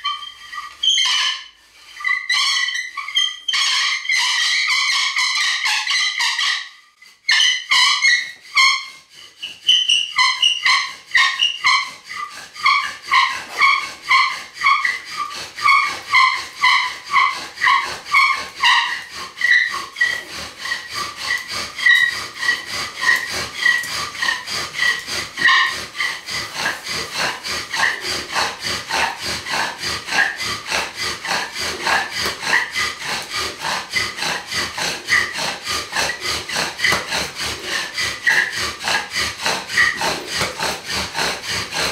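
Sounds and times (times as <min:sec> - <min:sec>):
wooden bow drill squealing: 0:00.0 - 0:28.4, 0:29.5 - 0:40.5
wood rasping on wood: 0:00.0 - 0:41.9.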